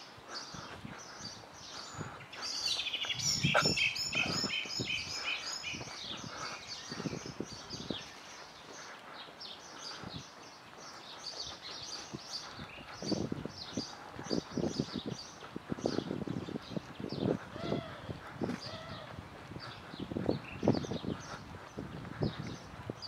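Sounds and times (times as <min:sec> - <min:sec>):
songbirds chirping and singing: 0:00.0 - 0:23.0.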